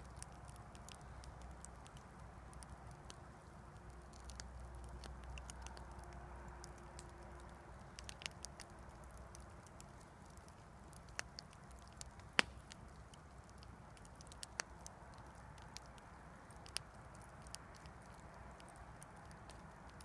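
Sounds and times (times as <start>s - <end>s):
campfire crackling and popping: 0.0s - 20.0s
soft steady background noise: 0.0s - 20.0s.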